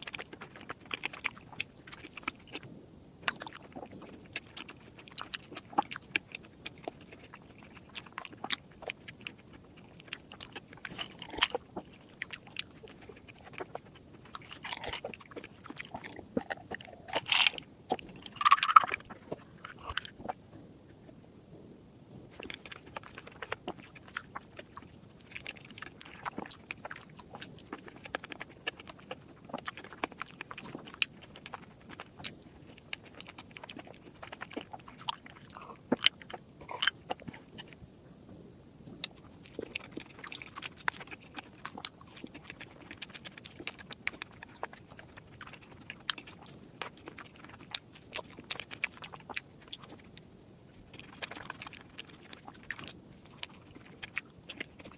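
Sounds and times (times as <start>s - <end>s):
crisp bites and chewing: 0.0s - 20.6s, 22.2s - 37.8s, 38.9s - 54.9s.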